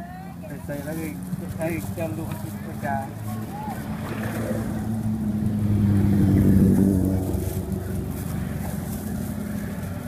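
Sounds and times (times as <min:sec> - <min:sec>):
vehicle engine passing by: 0:00.0 - 0:10.0.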